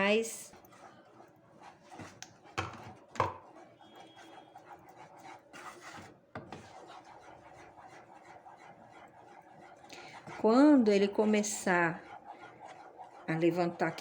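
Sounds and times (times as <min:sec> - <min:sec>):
spoon stirring in a saucepan: 0:00.0 - 0:14.0.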